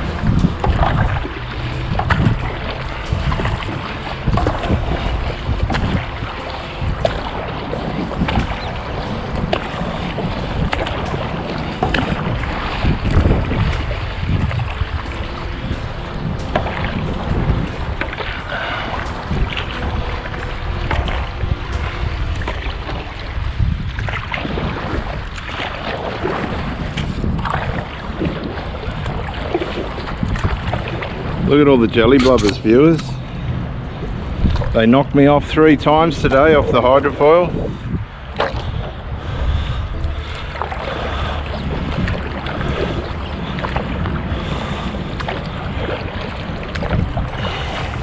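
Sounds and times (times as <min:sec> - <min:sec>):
jet ski engine running: 0:00.0 - 0:26.7, 0:27.4 - 0:48.0
water splashing: 0:00.0 - 0:48.0
wind buffeting microphone: 0:00.0 - 0:48.0.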